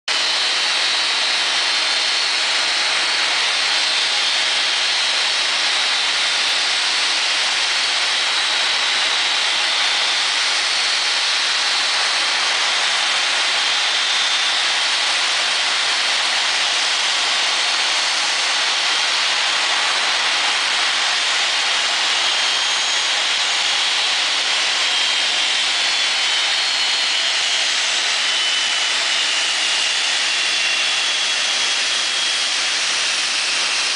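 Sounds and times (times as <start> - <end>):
jet engines roaring with whine: 0.1 - 33.9.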